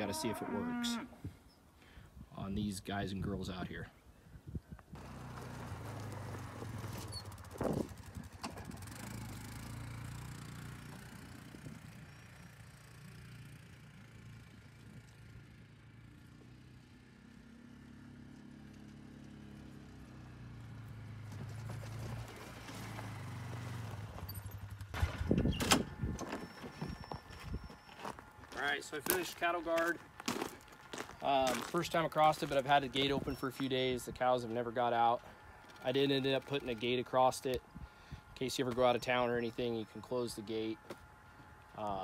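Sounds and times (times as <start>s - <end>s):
utility vehicle engine running: 5.0s - 42.0s.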